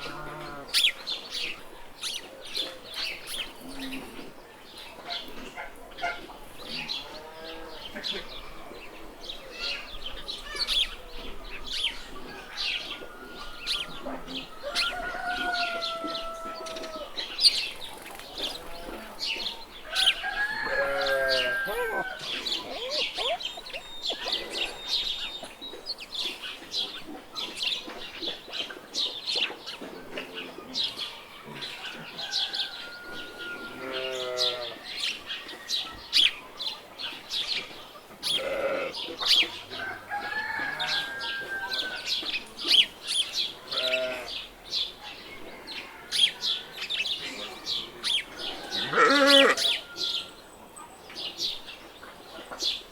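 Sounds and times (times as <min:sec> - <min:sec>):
chickens calling: 0:00.0 - 0:52.9
small birds chirping: 0:00.0 - 0:52.9.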